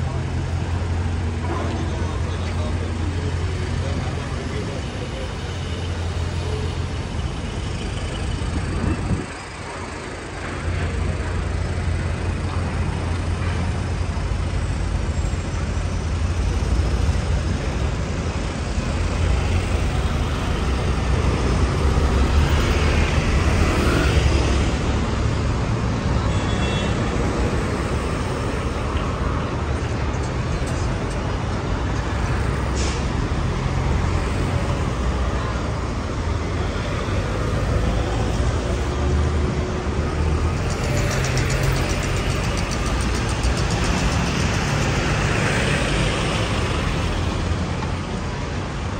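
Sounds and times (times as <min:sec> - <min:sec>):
vehicle engines rumbling: 0:00.0 - 0:48.9.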